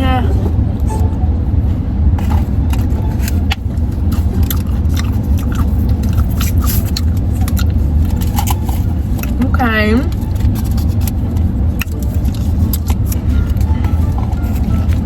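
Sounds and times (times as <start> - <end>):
car cabin rumble: 0.0 - 15.0
fork scraping plastic containers: 2.2 - 15.0.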